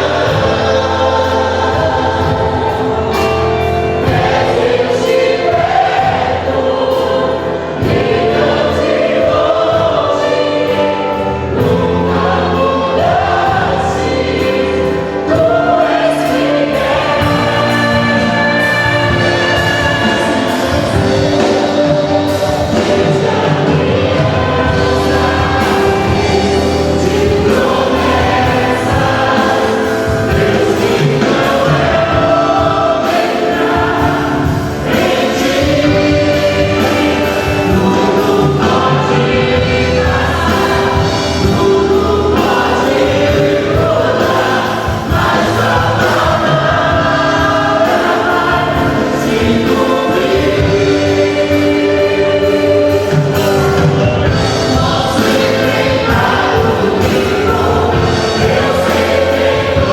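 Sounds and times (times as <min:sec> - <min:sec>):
choir singing gospel music: 0:00.0 - 0:59.9
instrumental accompaniment: 0:00.0 - 0:59.9.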